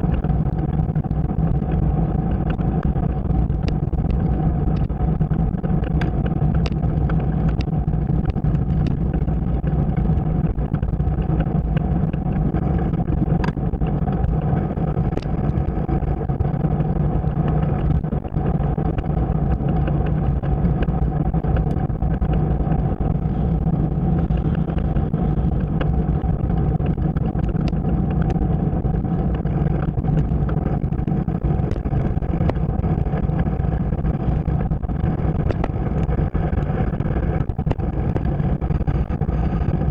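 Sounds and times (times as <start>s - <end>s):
faint ticks: 0.0s - 39.9s
motorcycle engine drone: 0.0s - 39.9s.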